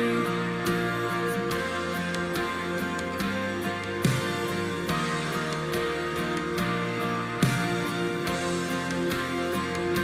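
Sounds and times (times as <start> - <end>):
strummed guitar: 0.0 - 10.0.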